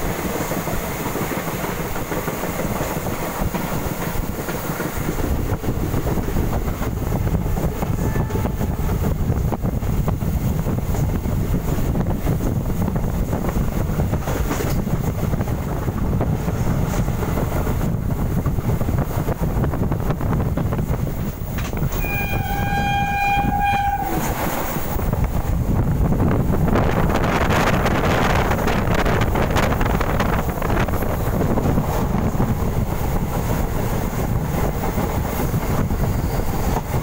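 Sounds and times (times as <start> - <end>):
clickety-clack of rail joints: 0.0 - 37.0
train wheels rumbling on rails: 0.0 - 37.0.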